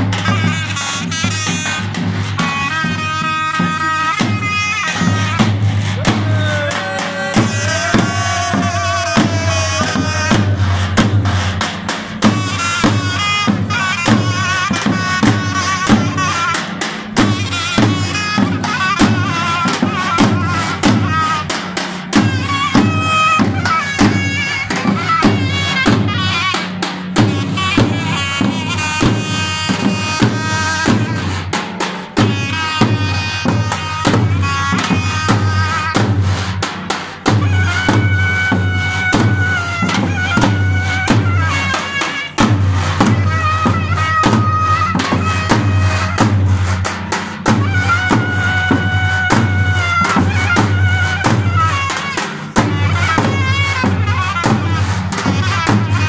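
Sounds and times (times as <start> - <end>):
double-headed drum beats: 0.0 - 56.0
shrill reed pipe melody: 0.0 - 56.0.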